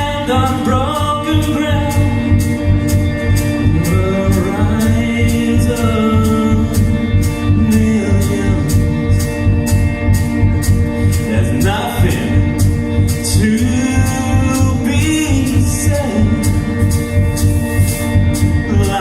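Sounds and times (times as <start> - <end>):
band playing a song: 0.0 - 19.0
steady drumbeat: 0.0 - 19.0.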